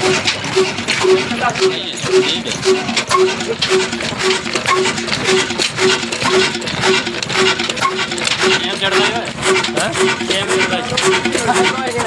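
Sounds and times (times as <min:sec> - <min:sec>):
diesel engine clattering: 0:00.0 - 0:12.0.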